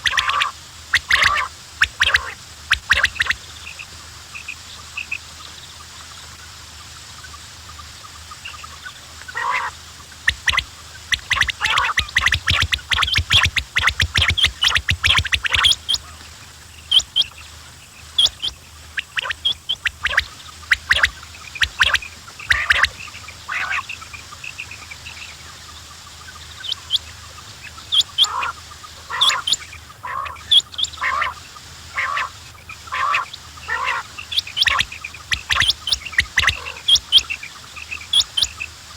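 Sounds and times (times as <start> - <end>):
quails calling: 0.0 - 38.9.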